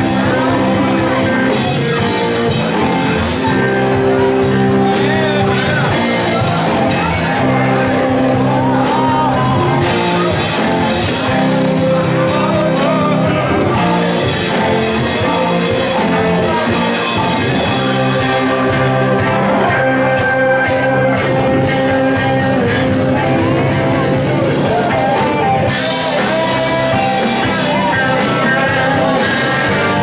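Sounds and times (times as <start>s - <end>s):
drums: 0.0s - 30.0s
electric guitars: 0.0s - 30.0s
person singing: 0.0s - 30.0s.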